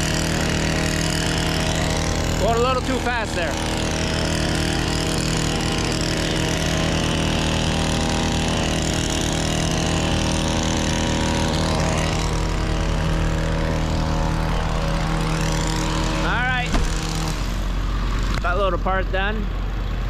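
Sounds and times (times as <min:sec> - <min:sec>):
hedge trimmer engine running: 0:00.0 - 0:19.9.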